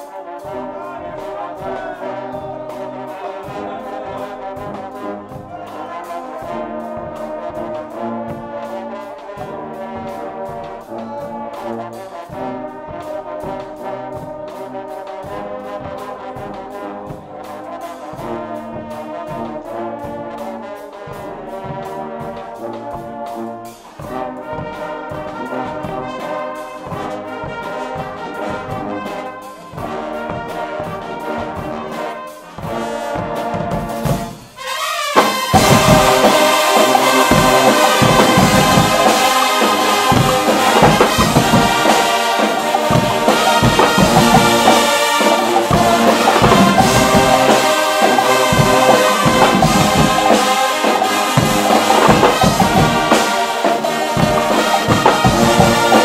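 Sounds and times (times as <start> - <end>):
brass section playing: 0.0 - 56.0
drum kit beat: 0.0 - 56.0.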